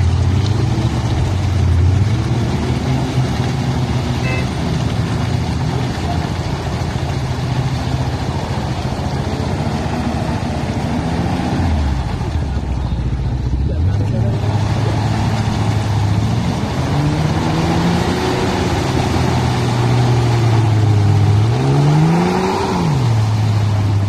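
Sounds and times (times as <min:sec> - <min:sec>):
tracked vehicle engine under load: 0:00.0 - 0:24.0.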